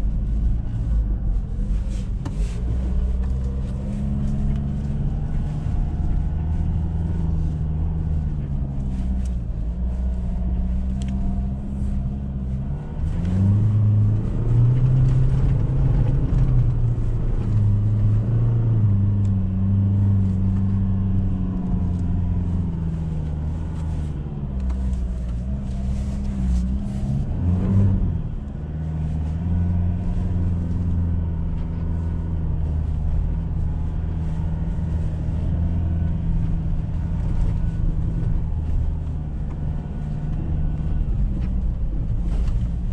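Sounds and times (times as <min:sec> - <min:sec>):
truck engine drone from inside cab: 0:00.0 - 0:42.9.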